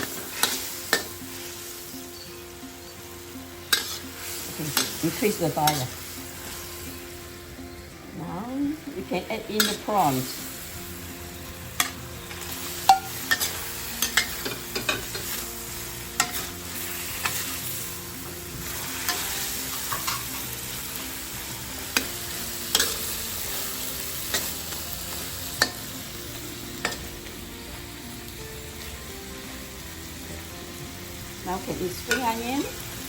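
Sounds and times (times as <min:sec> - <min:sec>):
spatula scraping a wok: 0:00.0 - 0:07.4, 0:09.6 - 0:29.8
prawns sizzling in a wok: 0:00.0 - 0:33.0.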